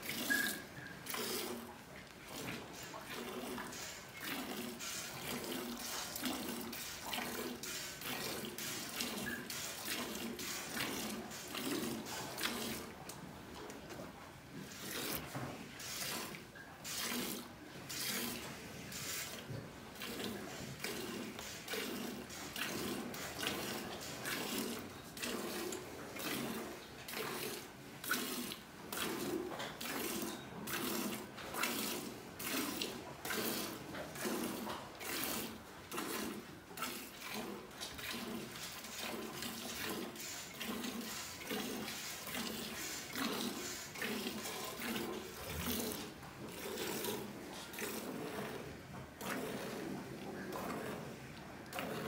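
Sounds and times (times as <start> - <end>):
milk squirting into pail: 0.0 - 13.1, 14.6 - 52.0.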